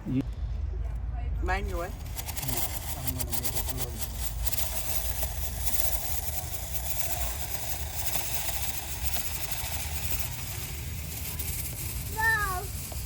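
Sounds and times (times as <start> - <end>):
drill spinning brush in duct: 1.7 - 13.0.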